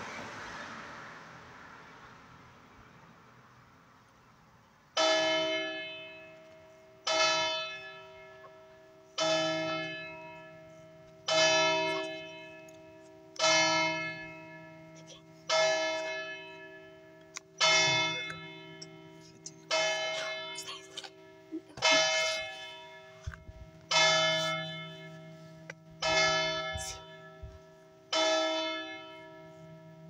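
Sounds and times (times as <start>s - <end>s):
church bell ringing: 4.9s - 30.0s.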